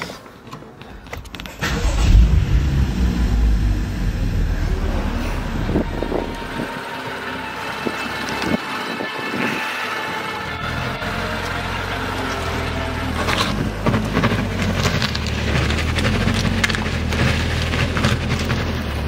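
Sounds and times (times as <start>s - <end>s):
tyres crackling and skipping: 0.4s - 19.0s
car engine running: 1.0s - 9.1s, 10.3s - 19.0s.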